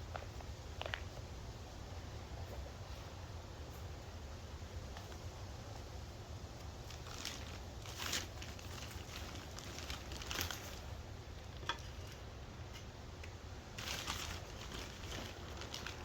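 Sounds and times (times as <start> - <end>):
rustling and scraping in soil: 0.0 - 16.0.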